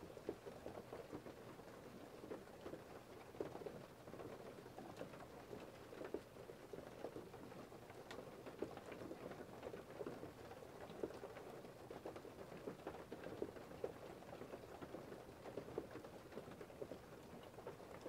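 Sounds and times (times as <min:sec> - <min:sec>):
rain pattering on a surface: 0:00.0 - 0:18.0.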